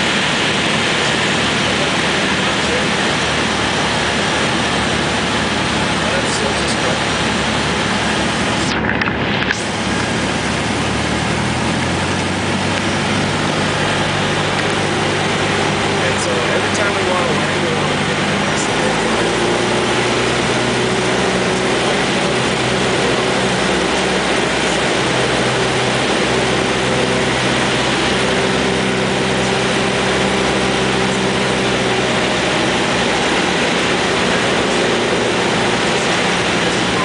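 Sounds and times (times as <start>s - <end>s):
piston engine and propeller droning: 0.0s - 37.0s.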